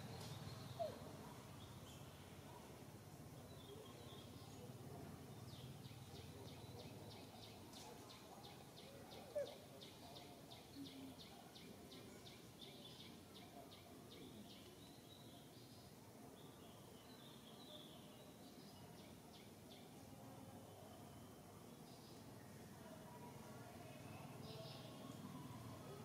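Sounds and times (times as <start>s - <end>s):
faint outdoor ambience: 0.0s - 26.0s.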